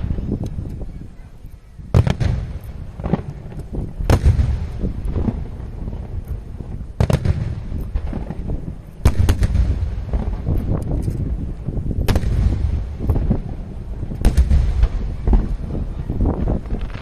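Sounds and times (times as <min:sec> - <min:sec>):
firework booms: 0:01.8 - 0:17.0
firework sharp cracks: 0:01.8 - 0:17.0.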